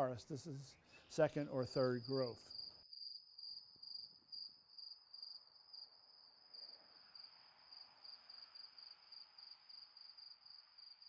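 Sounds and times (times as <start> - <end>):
high-pitched insect chirping: 1.7 - 11.0.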